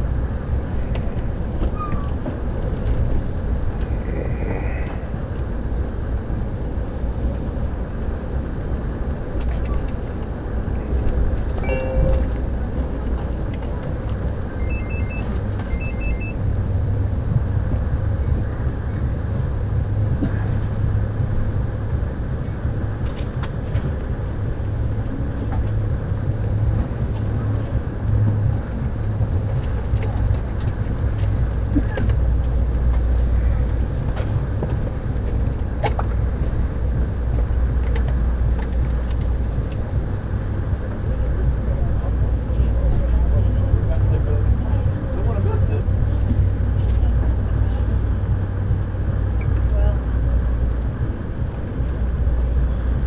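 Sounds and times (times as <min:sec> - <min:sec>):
passenger train car rumbling: 0:00.0 - 0:53.0.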